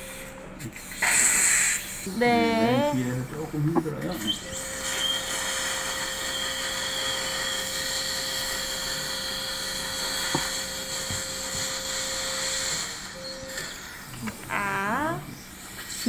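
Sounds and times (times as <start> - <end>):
dental drill whine: 0.0 - 3.1, 4.1 - 16.0.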